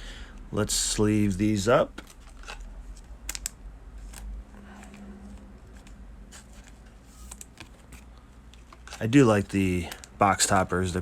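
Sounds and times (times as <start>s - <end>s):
cards rustling in plastic sleeves: 0.4s - 11.0s.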